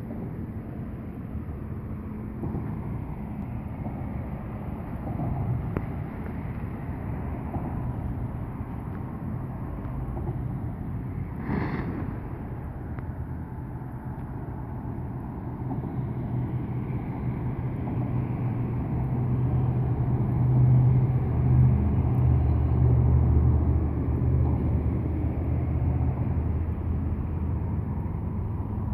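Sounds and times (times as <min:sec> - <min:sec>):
traffic rumble on bridge: 0:00.0 - 0:28.9.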